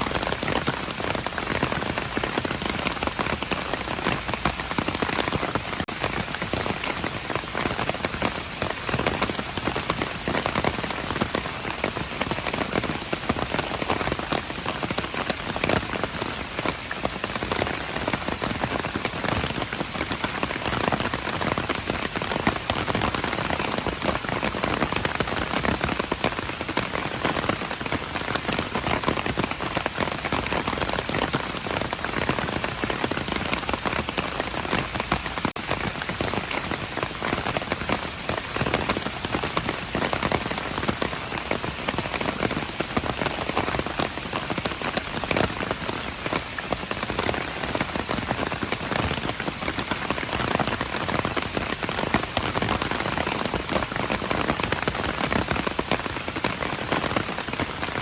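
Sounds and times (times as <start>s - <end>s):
rain drops on hard surface: 0.0s - 58.0s.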